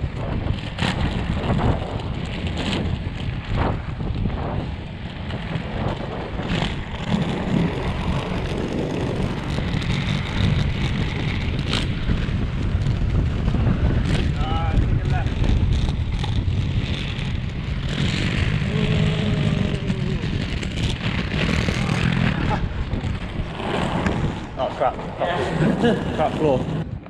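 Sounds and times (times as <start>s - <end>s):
skate wheels rolling on pavement: 0.0s - 27.0s
wind buffeting microphone: 0.0s - 27.0s.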